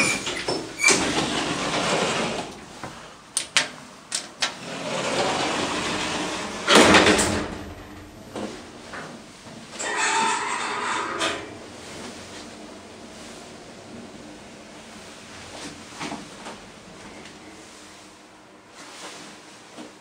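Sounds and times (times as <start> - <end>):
elevator doors sliding: 0.0 - 3.2, 4.1 - 19.1.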